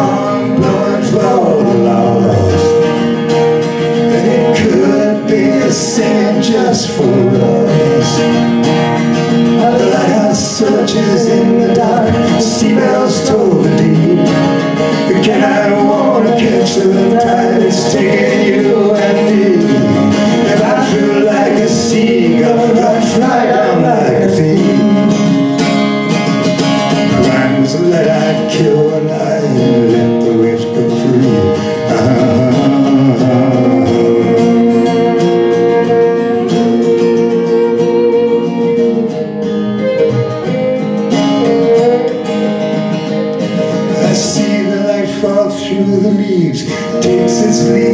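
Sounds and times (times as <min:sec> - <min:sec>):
person singing: 0:00.0 - 0:03.0, 0:04.0 - 0:08.5, 0:09.3 - 0:25.6, 0:27.0 - 0:47.9
violin playing: 0:00.0 - 0:27.4, 0:31.3 - 0:47.9
acoustic guitar strumming: 0:00.0 - 0:47.9.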